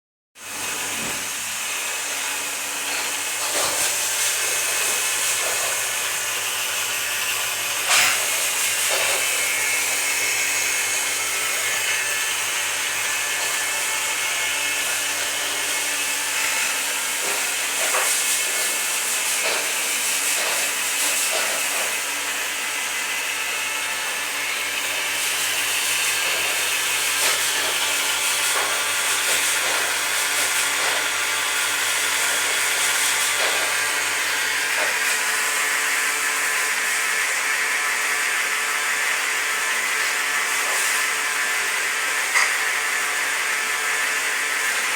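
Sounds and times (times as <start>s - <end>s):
small electric motor whirring: 1.0s - 44.9s.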